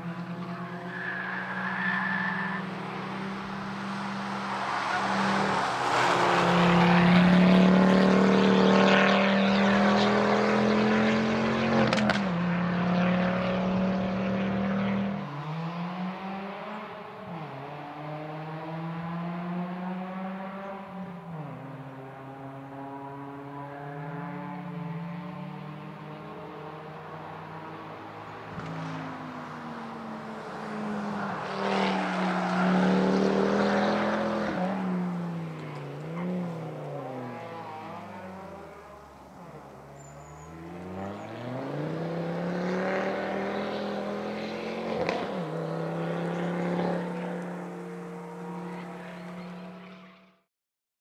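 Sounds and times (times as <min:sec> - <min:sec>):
car engine revving: 0:00.0 - 0:21.6, 0:22.2 - 0:50.2.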